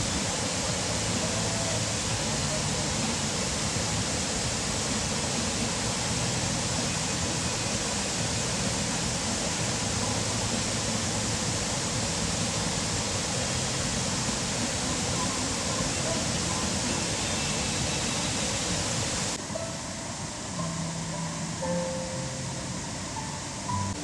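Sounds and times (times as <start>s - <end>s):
waterfall roar: 0.0s - 24.0s.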